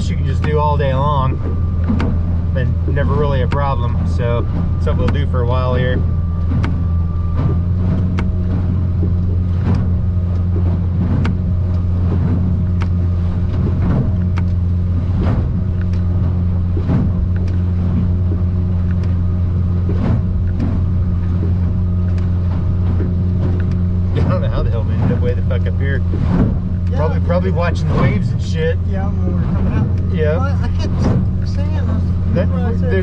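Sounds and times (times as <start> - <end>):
hull knocking on waves: 0.0 - 33.0
outboard engine droning: 0.0 - 33.0.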